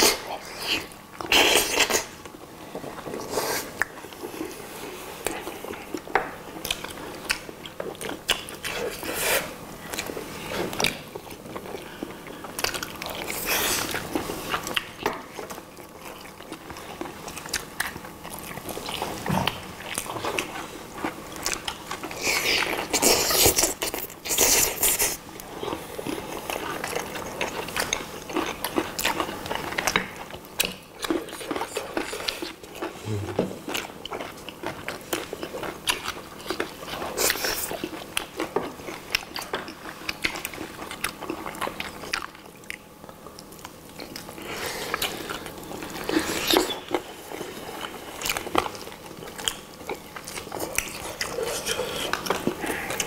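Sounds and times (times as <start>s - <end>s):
people chewing chicken: 0.0s - 53.0s.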